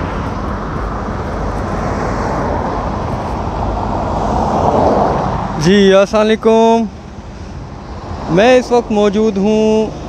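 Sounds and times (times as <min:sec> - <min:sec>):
large vehicle engine rumble: 0:00.0 - 0:10.0
street traffic noise: 0:00.0 - 0:10.0.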